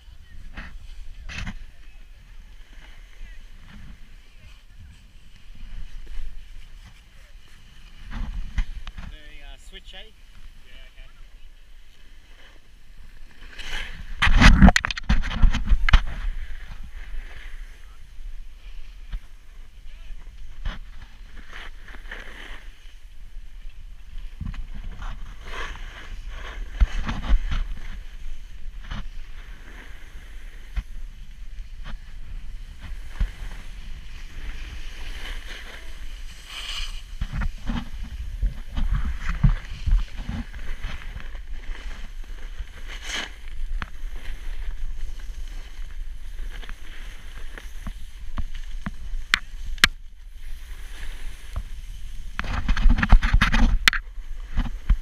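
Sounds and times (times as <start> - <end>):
snowboard scraping over snow: 0.0 - 55.0
wind rumbling on microphone: 0.0 - 55.0.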